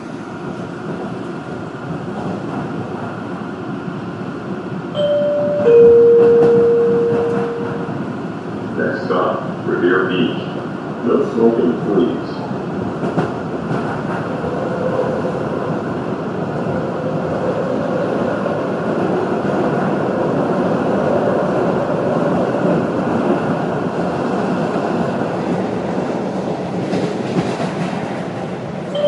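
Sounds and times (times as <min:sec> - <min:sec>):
passing train clacks: 0:00.0 - 0:29.0
subway train rumbling on tracks: 0:00.0 - 0:29.0.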